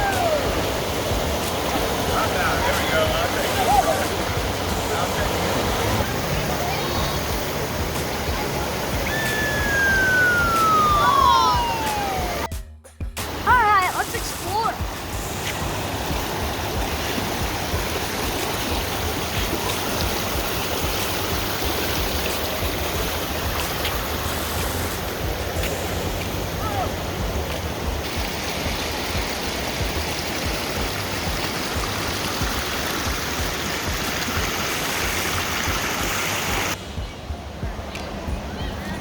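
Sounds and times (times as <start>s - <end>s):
water roaring over rocks: 0.0s - 12.5s, 13.2s - 36.8s.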